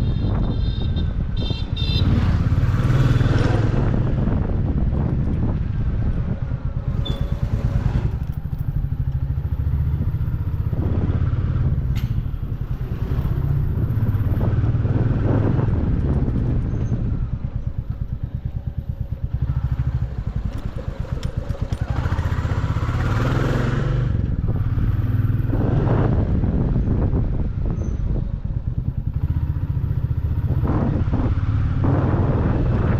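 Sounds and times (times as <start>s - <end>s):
motorcycle engine revving: 1.4s - 32.9s.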